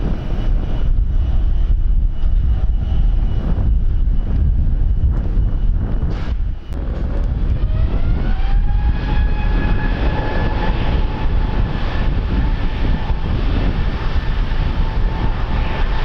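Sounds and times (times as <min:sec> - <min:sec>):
airliner engines whining: 0:00.0 - 0:16.0
wind buffeting microphone: 0:00.0 - 0:16.0.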